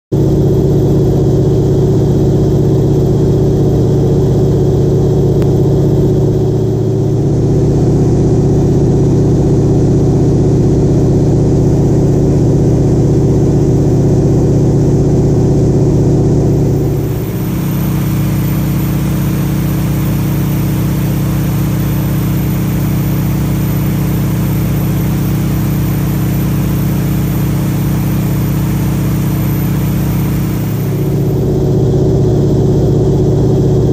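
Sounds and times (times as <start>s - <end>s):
radial aircraft engine and propeller: 0.1s - 33.9s.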